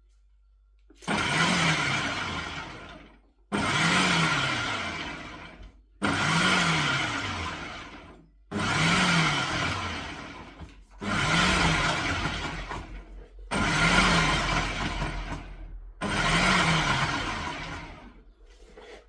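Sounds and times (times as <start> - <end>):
food processor motor bursts: 1.0 - 18.2.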